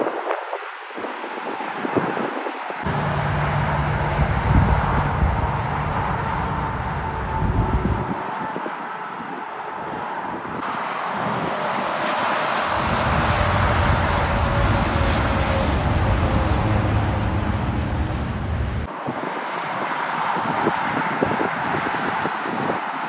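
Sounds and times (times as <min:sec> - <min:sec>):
highway traffic passing: 0:00.0 - 0:23.0
wind rumbling on microphone: 0:00.0 - 0:23.0.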